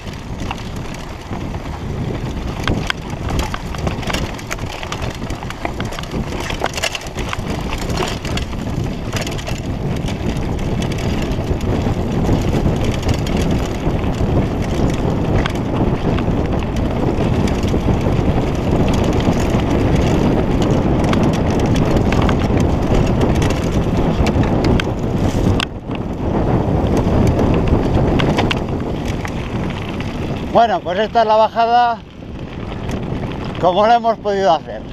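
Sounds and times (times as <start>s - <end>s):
bike rattling: 0.0s - 34.9s
tyres crunching over dirt: 0.0s - 34.9s
wind buffeting microphone: 0.0s - 34.9s.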